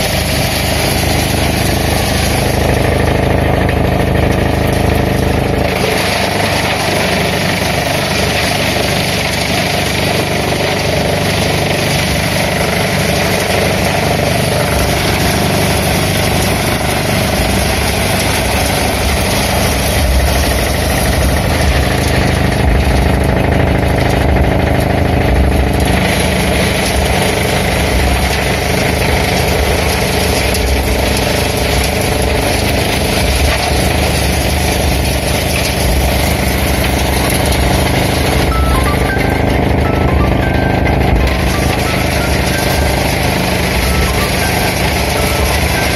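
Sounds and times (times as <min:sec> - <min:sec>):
tractor engine drone: 0:00.0 - 0:45.9
wood chipper shredding branches: 0:00.0 - 0:45.9.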